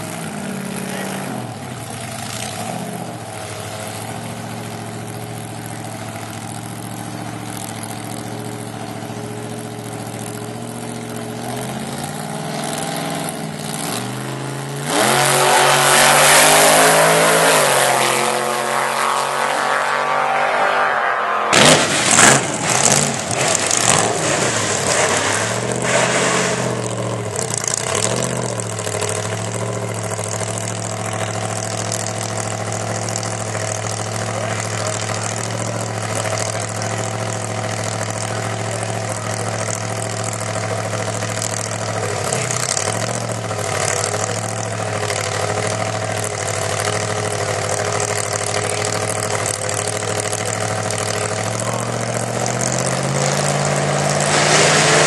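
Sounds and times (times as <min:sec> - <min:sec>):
engine idling and revving: 0:00.0 - 0:55.0.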